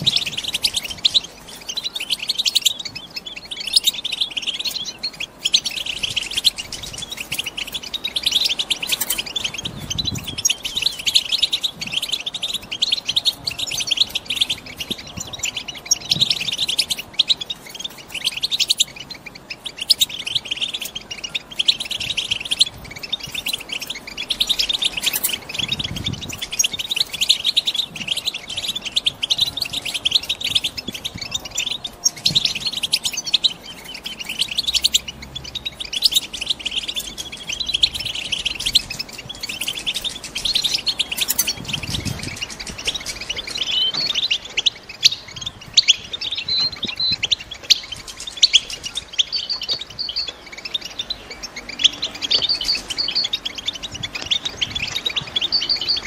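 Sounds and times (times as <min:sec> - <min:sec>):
goldfinches twittering: 0:00.0 - 0:56.0.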